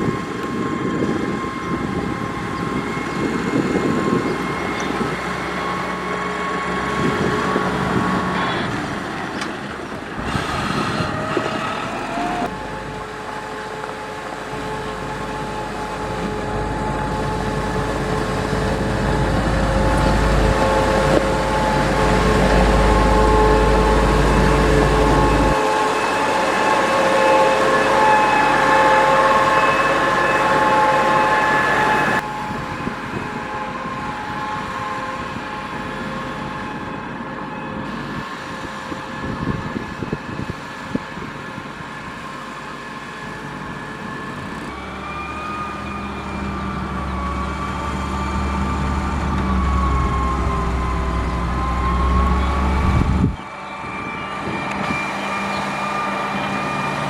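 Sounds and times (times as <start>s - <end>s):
engine whine: 0.0s - 57.0s
heavy diesel engine under load: 0.0s - 57.0s.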